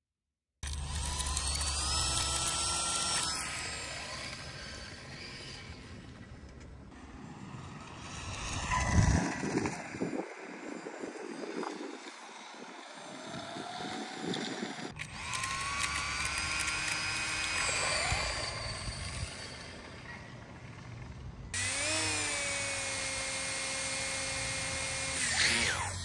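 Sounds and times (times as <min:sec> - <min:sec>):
electric fan and motor whine: 0:00.6 - 0:26.0.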